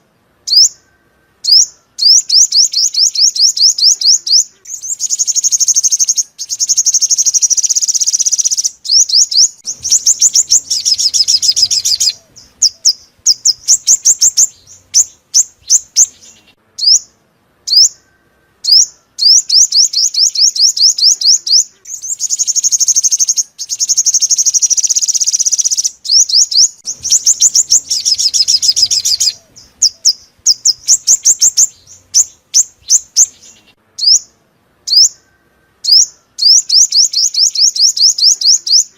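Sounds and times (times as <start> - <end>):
sharp bird chirps: 0.4 - 38.9
bird trilling high notes: 0.5 - 17.1, 17.7 - 34.3.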